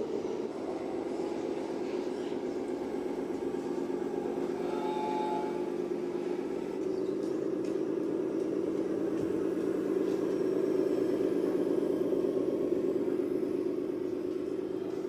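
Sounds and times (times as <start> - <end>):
model vehicle engine drone: 0.0 - 15.0.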